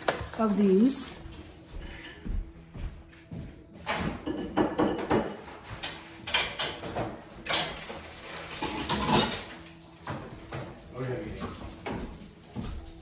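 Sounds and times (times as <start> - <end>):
rustles knocks and clatters: 1.3 - 13.0.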